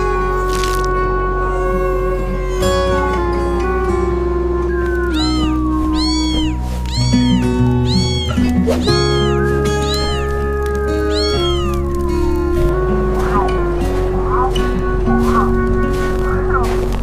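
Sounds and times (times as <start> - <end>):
cat meowing: 0.0 - 15.6
background music: 0.0 - 17.0.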